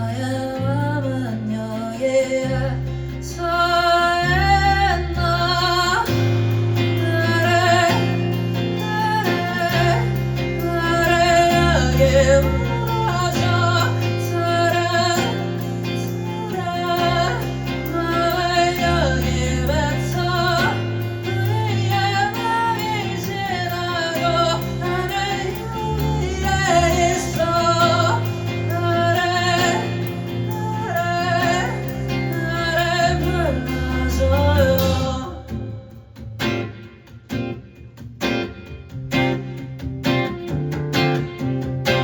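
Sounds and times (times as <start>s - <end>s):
person singing: 0.0s - 36.2s
acoustic guitar strumming: 0.0s - 42.0s
bass guitar: 0.0s - 42.0s.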